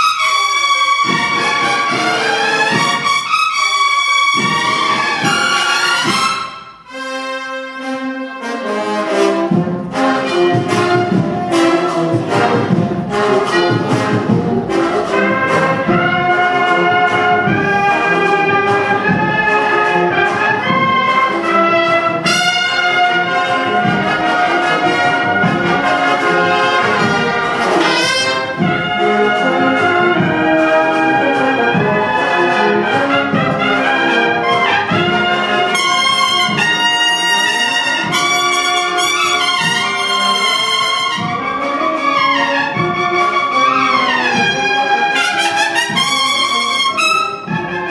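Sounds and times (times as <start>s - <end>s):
bugle chords: 0.0s - 47.9s
drum strokes: 1.0s - 3.4s, 4.2s - 6.9s, 9.2s - 47.9s.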